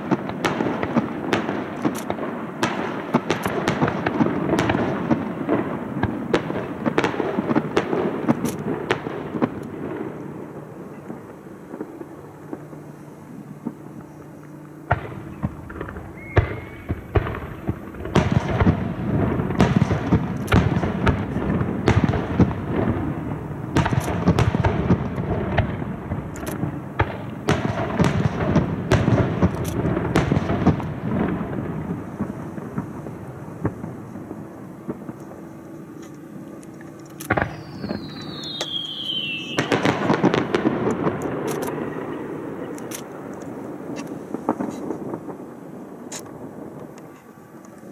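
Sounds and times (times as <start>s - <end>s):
fireworks bangs: 0.0s - 47.9s
fireworks rumble and crackle: 0.0s - 47.9s.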